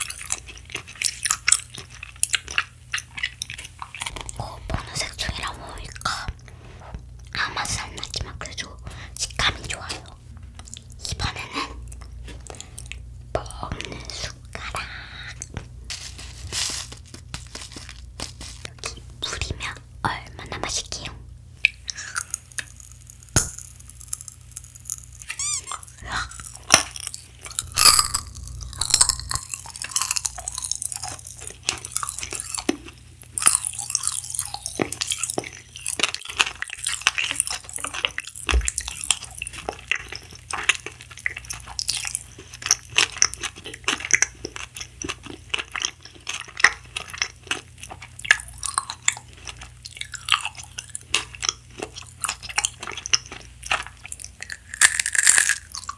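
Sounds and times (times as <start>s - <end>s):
crunching and chewing sweet: 0.0s - 55.9s.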